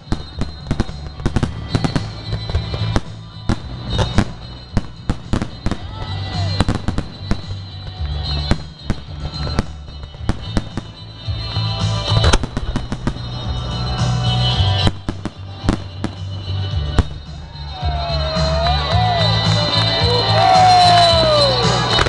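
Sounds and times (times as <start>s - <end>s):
firework shells bursting: 0.0s - 17.7s
music playing: 0.0s - 22.0s.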